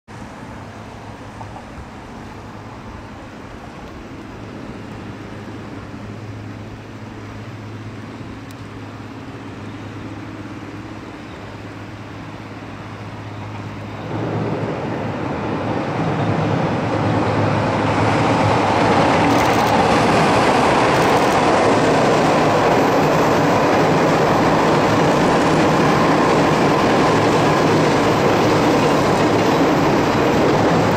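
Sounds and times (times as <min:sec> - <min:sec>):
freight train rumbling: 0:00.1 - 0:30.9.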